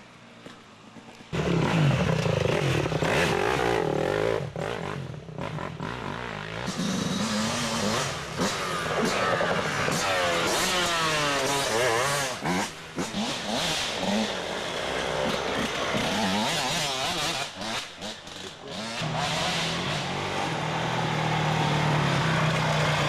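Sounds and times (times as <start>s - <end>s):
dirt bike engine revving: 1.3s - 23.0s.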